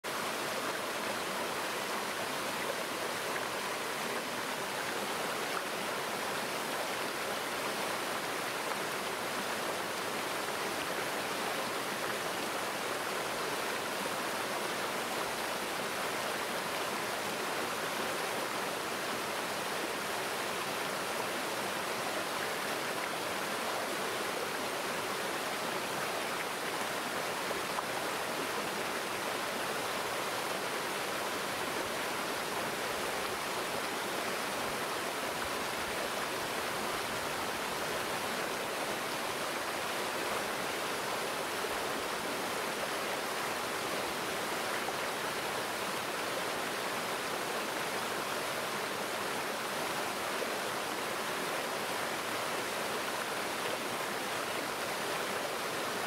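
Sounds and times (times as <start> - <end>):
stream water rushing and splashing: 0.0 - 56.0.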